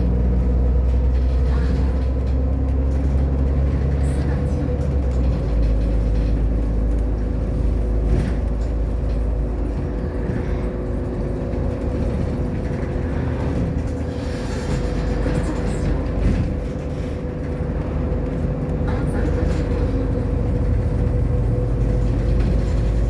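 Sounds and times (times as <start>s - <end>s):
bus engine and road rumble: 0.0s - 23.0s
constant whine: 0.0s - 23.0s.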